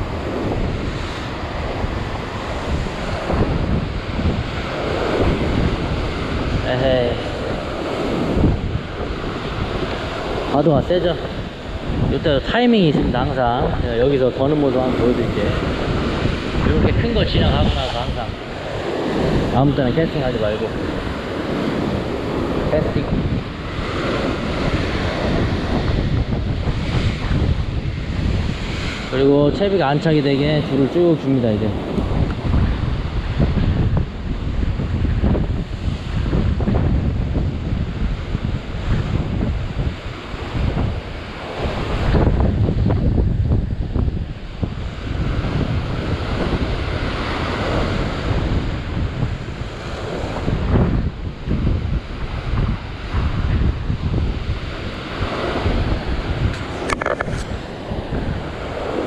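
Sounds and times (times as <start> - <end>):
surf breaking over rocks: 0.0 - 59.0
wind buffeting microphone: 0.0 - 59.0.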